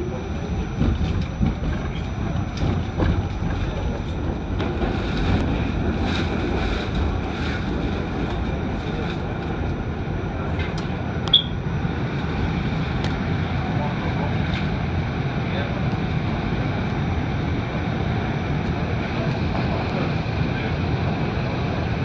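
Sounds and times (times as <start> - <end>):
subway train rumbling on rails: 0.0 - 22.0.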